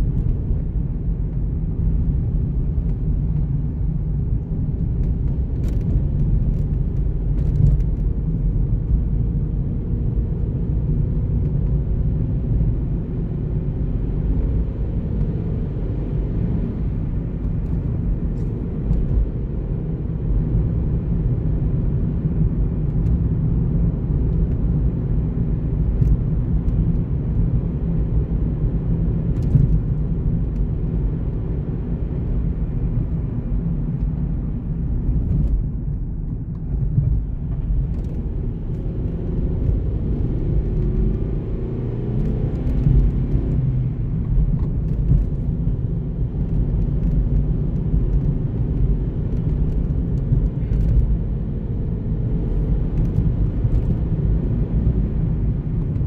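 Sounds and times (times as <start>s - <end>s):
car tyre and engine rumble: 0.0s - 56.0s.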